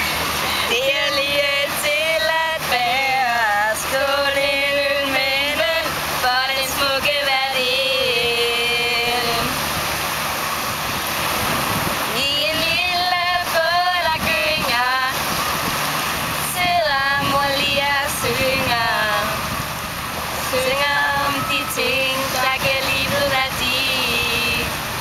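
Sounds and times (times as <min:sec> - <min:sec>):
women singing together: 0:00.0 - 0:09.8, 0:12.0 - 0:19.7, 0:20.3 - 0:25.0
surf rushing: 0:00.0 - 0:25.0.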